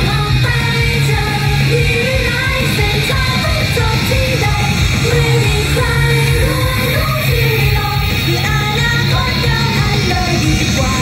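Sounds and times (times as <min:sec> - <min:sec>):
loud backing music with bass: 0:00.0 - 0:11.0
women singing into microphones: 0:00.0 - 0:11.0.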